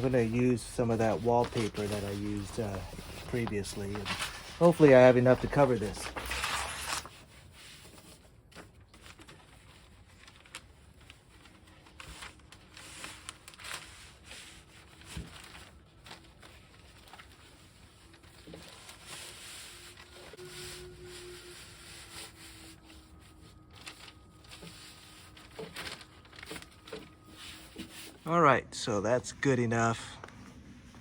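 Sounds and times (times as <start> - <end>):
wallpaper rustling and crinkling: 0.0 - 28.6.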